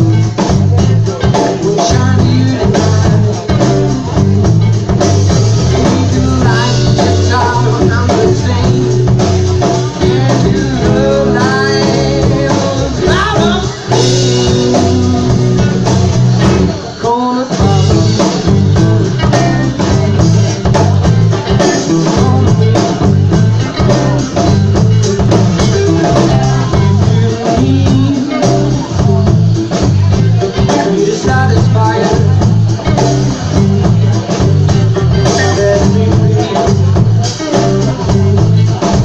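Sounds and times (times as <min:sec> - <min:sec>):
driving bass rhythm: 0:00.0 - 0:39.0
live band playing blues rock: 0:00.0 - 0:39.0.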